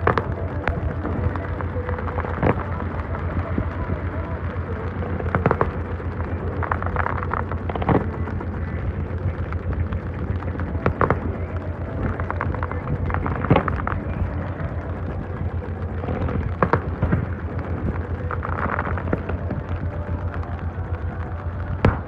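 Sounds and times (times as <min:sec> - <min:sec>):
fireworks bursting: 0:00.0 - 0:22.0
steady low rumble: 0:00.0 - 0:22.0.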